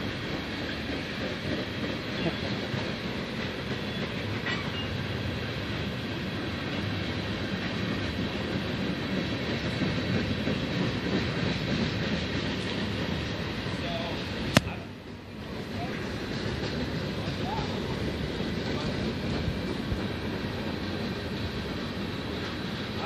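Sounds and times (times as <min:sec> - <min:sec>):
train wheels rolling on rails: 0:00.0 - 0:23.0.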